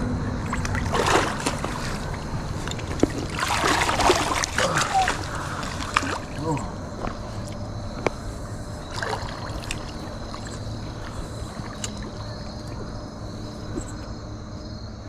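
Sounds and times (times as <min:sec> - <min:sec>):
river water rushing: 0:00.0 - 0:12.7
low hum: 0:00.0 - 0:15.0.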